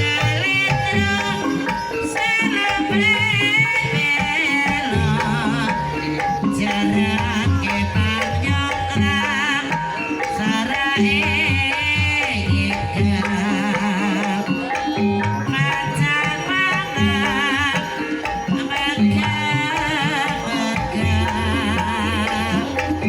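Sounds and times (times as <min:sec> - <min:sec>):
gamelan ensemble music: 0:00.0 - 0:23.0
hand drum strokes: 0:00.0 - 0:23.0
high wavering melody: 0:00.0 - 0:23.0.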